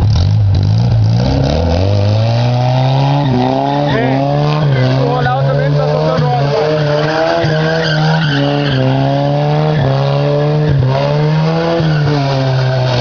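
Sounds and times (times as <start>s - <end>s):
racing engine accelerating through gears: 0.0s - 13.0s.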